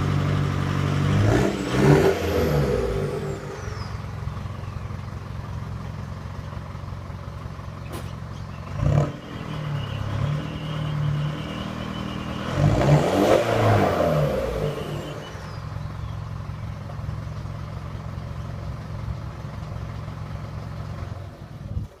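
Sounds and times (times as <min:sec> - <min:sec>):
diesel engine idling and revving: 0:00.0 - 0:22.0.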